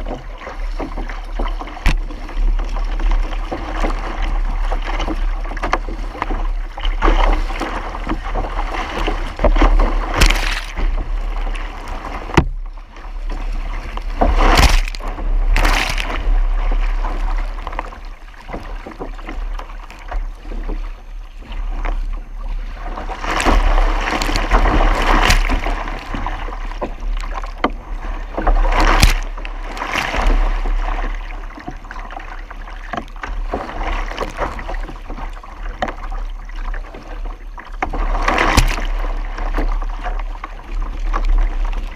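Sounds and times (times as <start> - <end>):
water splashing along kayak hull: 0.0 - 41.9.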